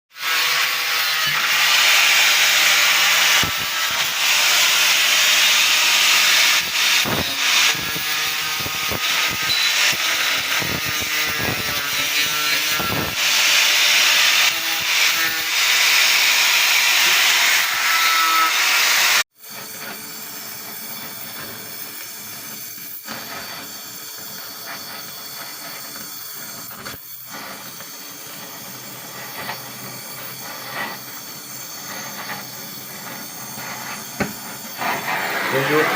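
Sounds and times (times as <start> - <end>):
welding torch flame hissing: 0.2 - 17.3, 19.0 - 35.9.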